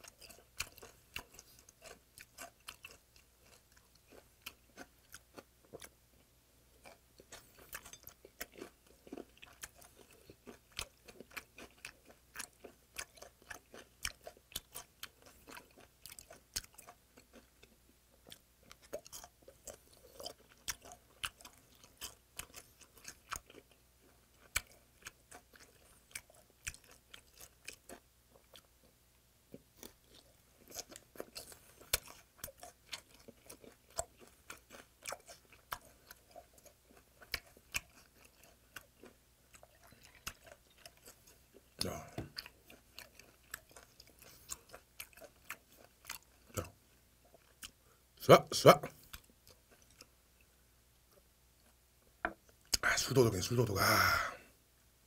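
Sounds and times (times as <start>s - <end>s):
crunchy chewing: 0.0s - 48.0s, 48.8s - 51.8s.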